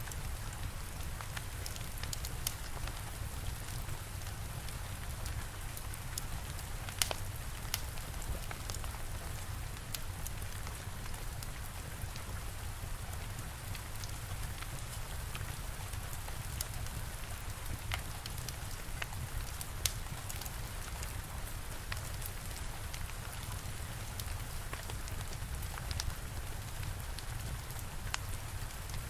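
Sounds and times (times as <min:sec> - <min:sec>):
steady rain: 0:00.0 - 0:29.0
wood fire crackling and popping: 0:00.1 - 0:29.0.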